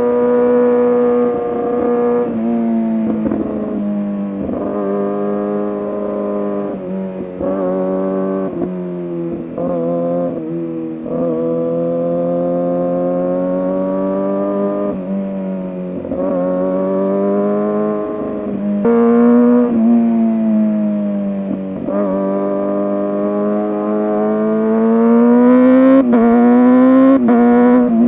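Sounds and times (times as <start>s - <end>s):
motorcycle engine at high revs: 0.0s - 28.0s.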